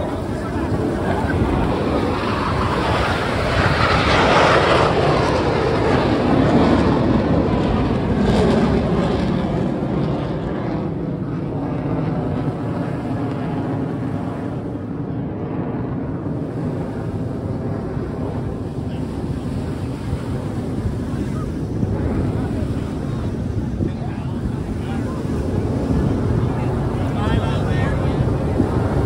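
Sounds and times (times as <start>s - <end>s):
jet roar flying past: 0.0s - 29.0s
wind buffeting microphone: 0.0s - 29.0s.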